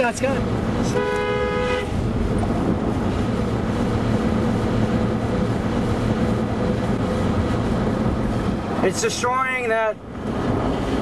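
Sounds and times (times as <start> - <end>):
tornado wind roaring: 1.8 - 11.0.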